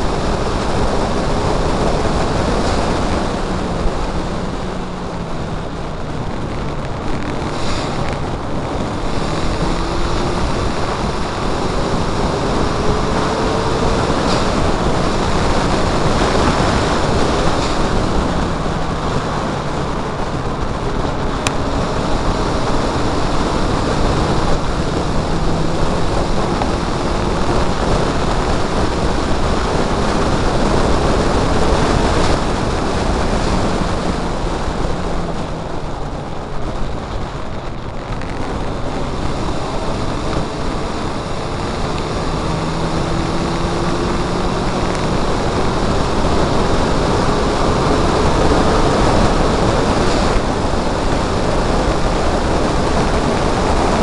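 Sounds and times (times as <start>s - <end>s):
race car engine revving: 0.0s - 54.0s
wind and road noise: 0.0s - 54.0s.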